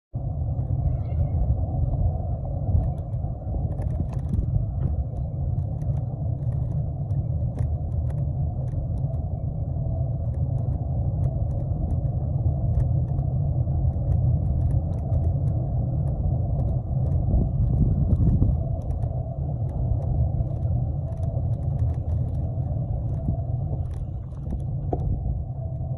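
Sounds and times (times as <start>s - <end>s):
wind buffeting microphone: 0.1s - 25.9s
bike tyre noise: 0.8s - 25.9s
small clicks and rattles: 2.7s - 25.9s.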